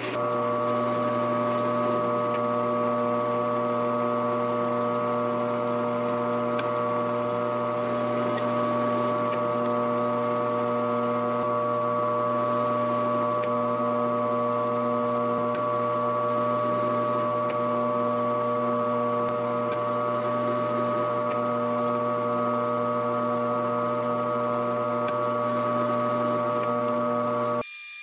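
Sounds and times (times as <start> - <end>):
metal lathe motor whine: 0.0 - 27.6.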